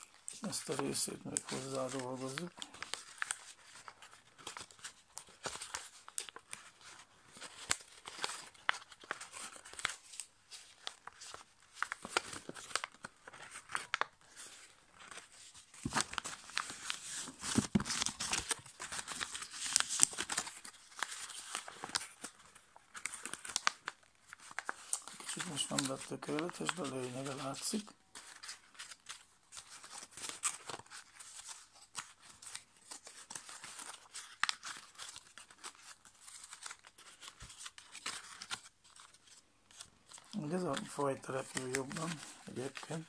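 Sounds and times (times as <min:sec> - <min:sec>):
paper crinkling: 0:00.0 - 0:43.0.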